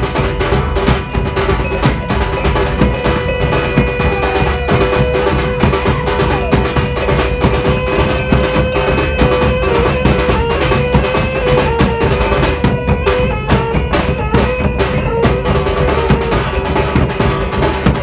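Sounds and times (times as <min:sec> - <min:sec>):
drums and percussion rhythm: 0:00.0 - 0:18.0
held melody line: 0:00.0 - 0:18.0.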